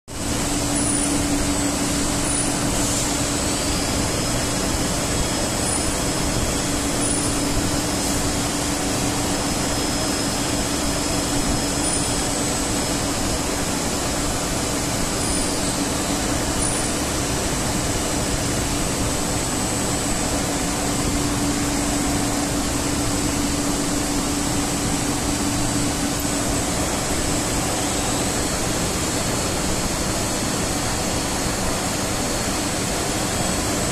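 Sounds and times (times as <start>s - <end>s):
welding machine hum and whine: 0.1s - 33.9s.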